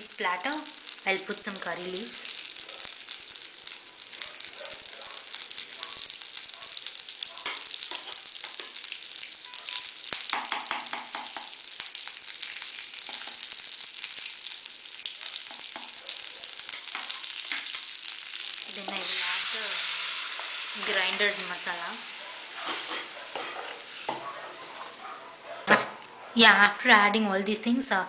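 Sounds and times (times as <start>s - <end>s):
leaves sizzling in hot oil: 0.0s - 25.1s.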